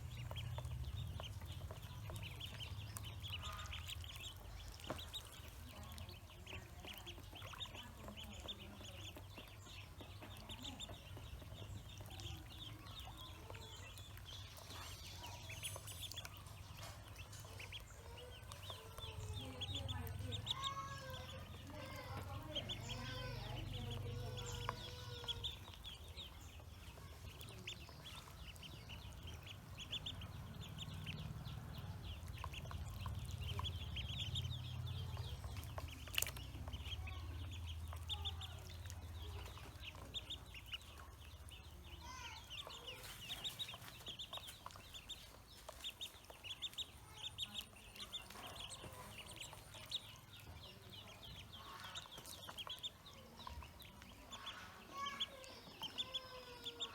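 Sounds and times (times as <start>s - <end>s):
ducklings peeping: 0.0s - 56.9s.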